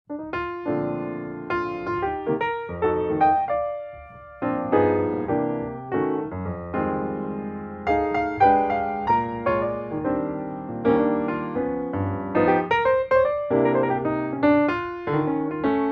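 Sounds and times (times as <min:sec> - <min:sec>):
piano-like keyboard music: 0:00.1 - 0:15.9.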